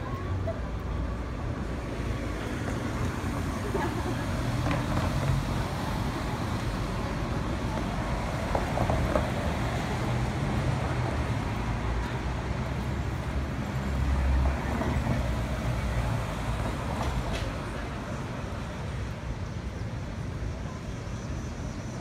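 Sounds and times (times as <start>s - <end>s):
cars driving past: 0.8s - 20.4s.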